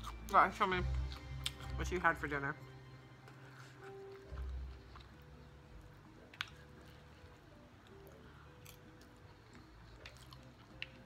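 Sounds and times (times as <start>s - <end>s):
chewing food: 0.0s - 2.0s, 3.0s - 11.0s.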